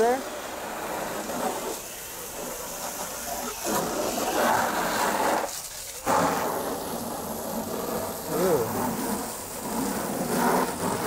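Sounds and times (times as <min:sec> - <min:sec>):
water spray hissing: 0:00.0 - 0:11.0.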